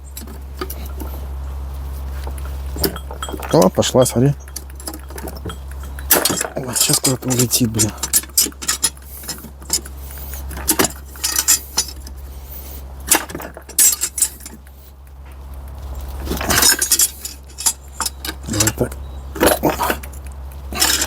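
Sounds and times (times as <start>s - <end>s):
low hum: 0.0s - 21.0s
steel tools clinking on metal: 2.3s - 14.9s, 16.3s - 21.0s.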